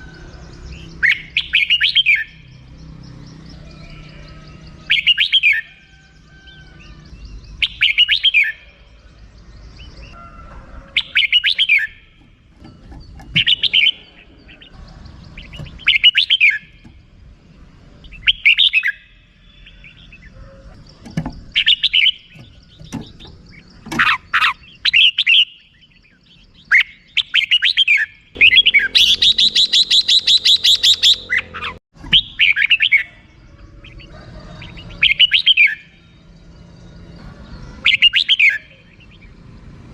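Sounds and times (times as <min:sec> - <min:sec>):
rapid repeated bird notes: 0:00.0 - 0:10.2, 0:10.9 - 0:36.0
bulbul calling: 0:00.0 - 0:36.0, 0:37.7 - 0:39.4.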